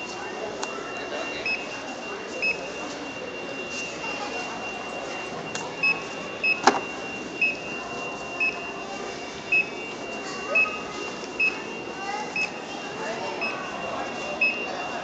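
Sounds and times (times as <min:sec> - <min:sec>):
barcode scanner beeping: 0:00.0 - 0:15.0.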